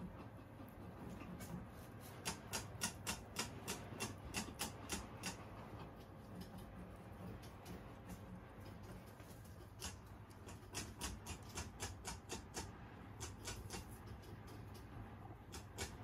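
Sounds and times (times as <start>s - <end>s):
guinea pig chewing hay: 0.0s - 16.0s.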